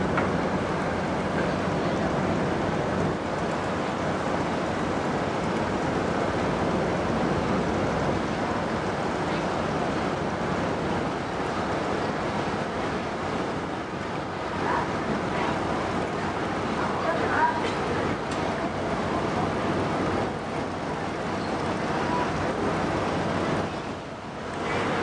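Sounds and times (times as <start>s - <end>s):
low engine hum: 0.0s - 25.0s
rush of wind and water: 0.0s - 25.0s.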